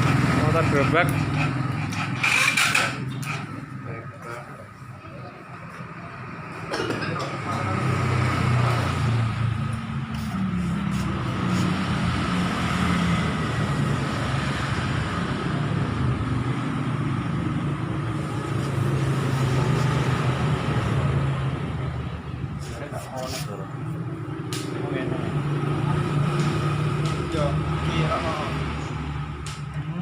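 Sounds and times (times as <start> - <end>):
motorcycle engine revving and idling: 0.0 - 4.4, 7.3 - 30.0.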